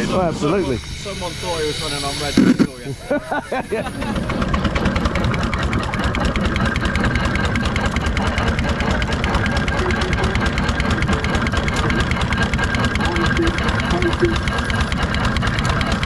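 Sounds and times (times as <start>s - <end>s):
miniature steam engine chuffing: 0.0s - 16.0s.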